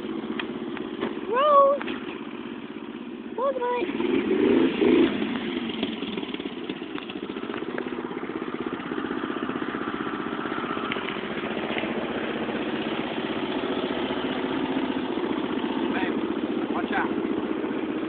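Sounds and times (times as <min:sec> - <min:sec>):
lawnmower engine running: 0:00.0 - 0:18.0.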